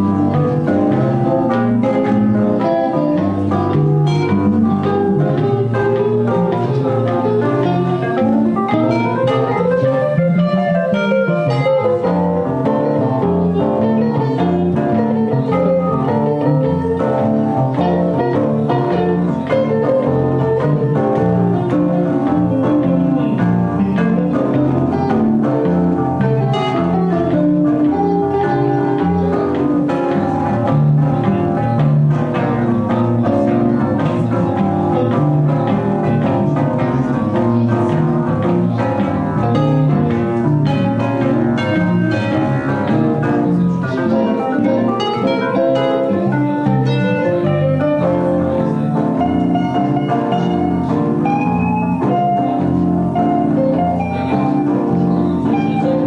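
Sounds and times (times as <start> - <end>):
electric guitar: 0.0 - 56.0
electric keyboard: 0.0 - 56.0
stepping bass line: 0.0 - 56.0.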